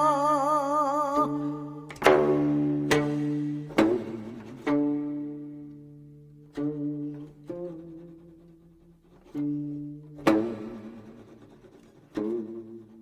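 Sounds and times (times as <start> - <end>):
plucked string notes: 0.0 - 13.0.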